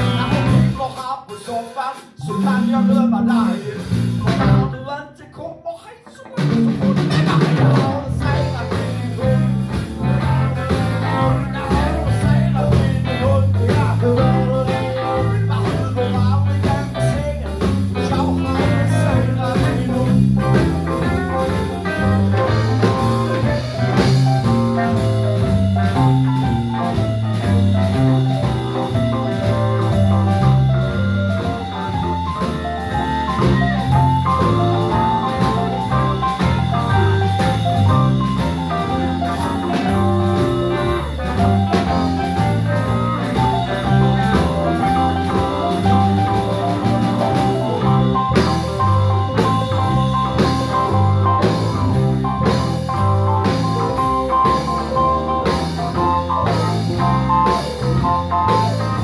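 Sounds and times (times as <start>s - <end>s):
walking electric bass line: 0.0s - 0.9s, 2.2s - 4.8s, 6.4s - 59.0s
electric guitars: 0.0s - 1.1s, 1.8s - 5.0s, 6.0s - 59.0s
drum kit: 0.0s - 5.2s, 6.0s - 59.0s
keyboard: 2.1s - 5.0s, 6.2s - 59.0s.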